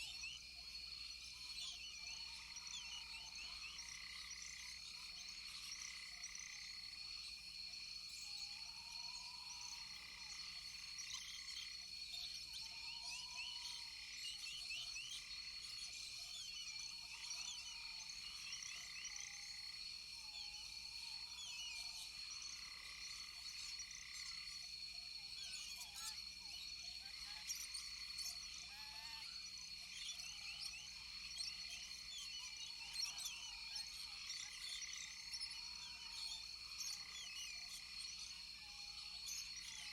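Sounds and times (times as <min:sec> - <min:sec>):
frogs chirping and trilling: 0:00.4 - 0:08.0, 0:08.6 - 0:39.9.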